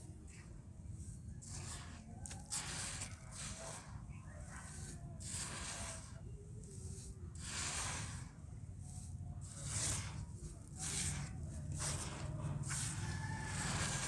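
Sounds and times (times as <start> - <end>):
hands sweeping dry dirt: 0.0 - 14.0.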